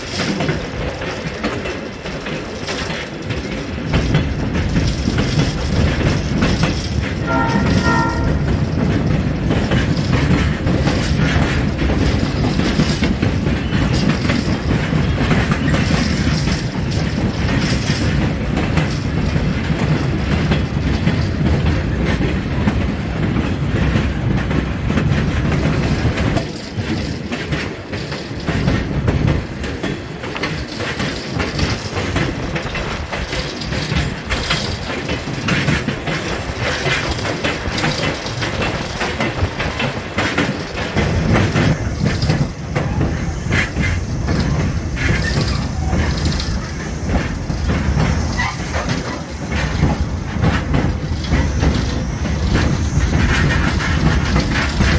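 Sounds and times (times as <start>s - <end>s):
train car rumble and rattle: 0.0s - 54.9s
wheels clicking over rail joints: 0.0s - 54.9s.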